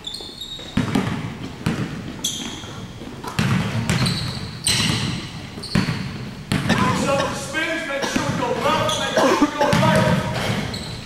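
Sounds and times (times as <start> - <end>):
basketballs bouncing on wood floor: 0.0 - 7.3, 8.1 - 9.1, 9.7 - 11.0
sneakers squeaking: 0.0 - 11.0.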